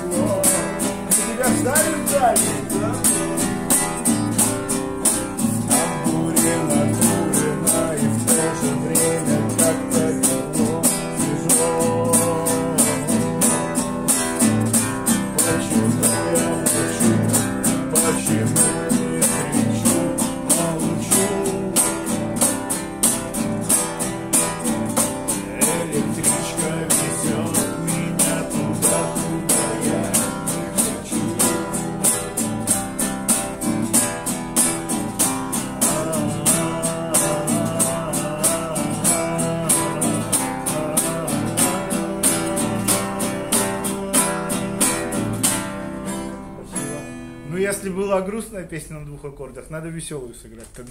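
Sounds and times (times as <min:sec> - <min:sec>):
men singing: 0:00.0 - 0:33.6, 0:34.8 - 0:46.0
acoustic guitars strummed: 0:00.0 - 0:48.9.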